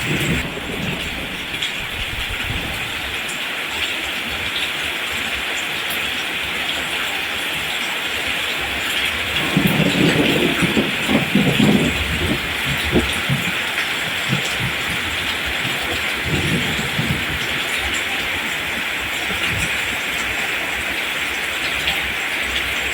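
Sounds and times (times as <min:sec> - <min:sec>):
rain falling on plants: 0:00.0 - 0:22.9.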